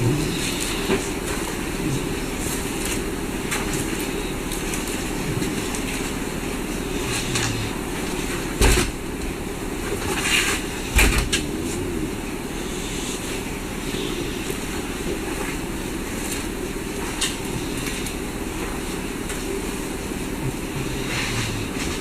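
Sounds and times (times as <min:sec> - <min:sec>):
ventilation fan hum: 0:00.0 - 0:22.0.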